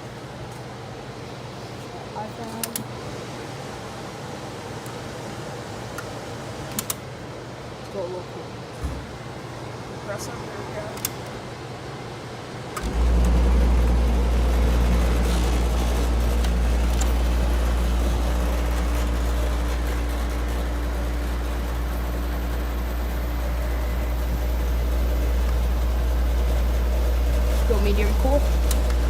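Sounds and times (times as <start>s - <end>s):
air conditioner fan droning: 0.0s - 29.0s.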